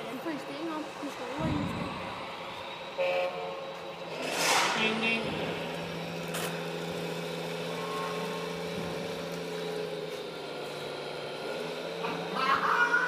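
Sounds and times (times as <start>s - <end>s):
toy truck engine hum: 0.0s - 13.0s.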